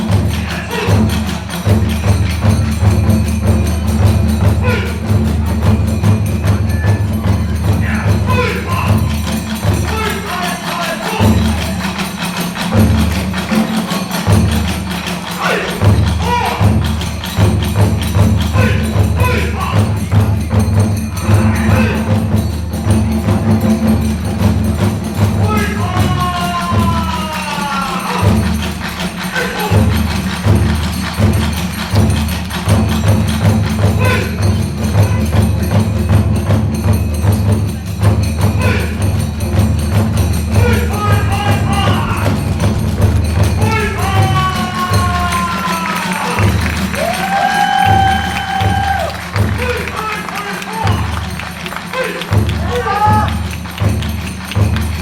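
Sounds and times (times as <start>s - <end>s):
drums beating fast rhythm: 0.0s - 55.0s
hand cymbals clashing: 0.0s - 55.0s.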